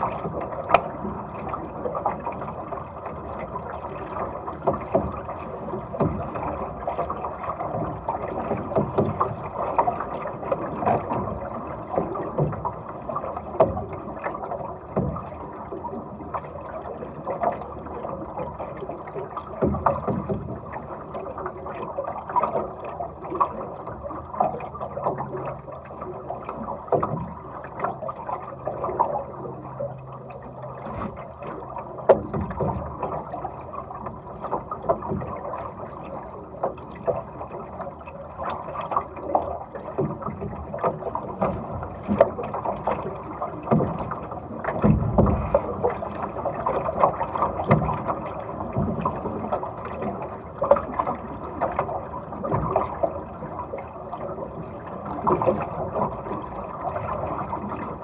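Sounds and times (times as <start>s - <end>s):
short water splashes: 0.0s - 58.0s
water slapping against a hull: 0.0s - 58.0s.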